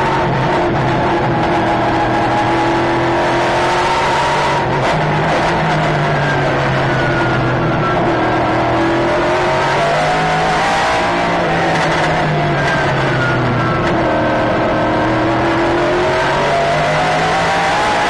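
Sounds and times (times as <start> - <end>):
race car engine at speed: 0.0 - 18.0.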